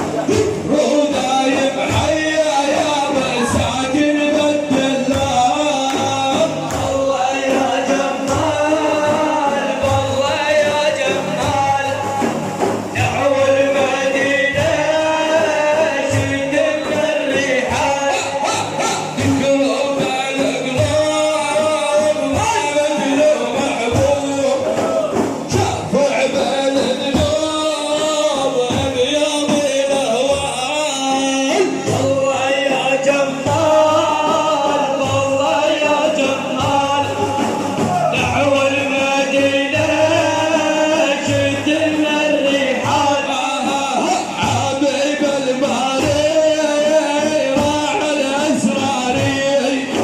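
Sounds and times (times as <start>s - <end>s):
men singing devotional song: 0.0s - 50.0s
steady drum beats: 0.0s - 50.0s.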